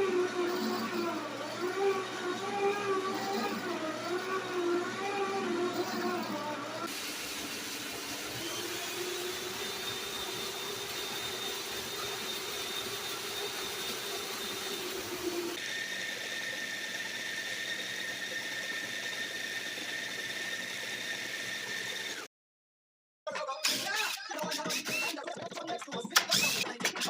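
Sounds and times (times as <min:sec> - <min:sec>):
power tools running: 0:00.0 - 0:22.3.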